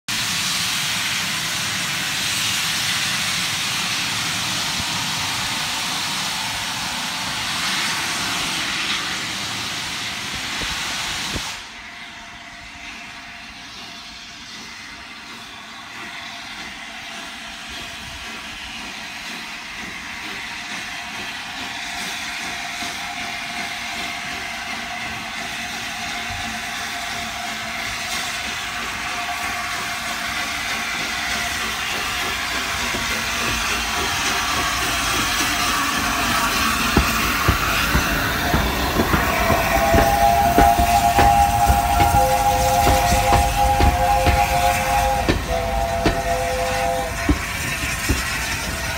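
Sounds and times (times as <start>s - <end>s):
steam locomotive hissing steam: 0.0s - 48.9s
locomotive approaching: 0.1s - 48.9s.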